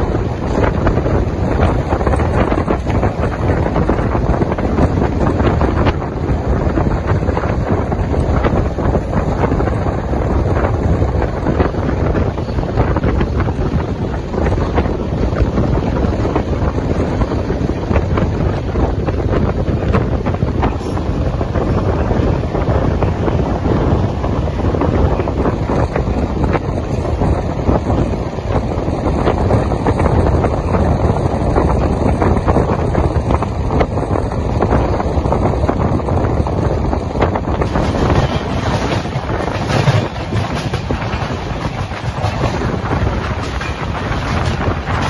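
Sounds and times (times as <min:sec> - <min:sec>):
train rumbling on rails: 0:00.0 - 0:45.0
wind rushing over microphone: 0:00.0 - 0:45.0.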